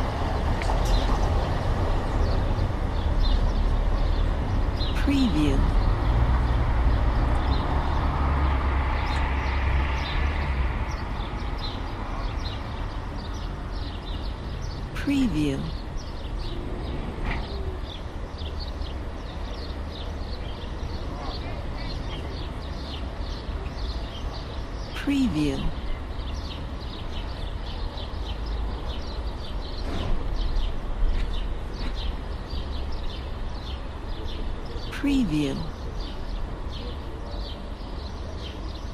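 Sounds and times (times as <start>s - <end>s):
road traffic rumble: 0.0s - 38.9s
small birds chirping: 0.0s - 38.9s
street noise: 0.0s - 38.9s.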